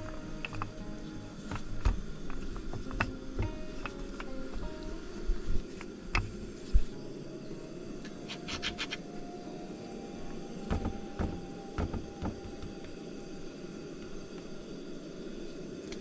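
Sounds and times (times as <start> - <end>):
steady low background noise: 0.0 - 16.0.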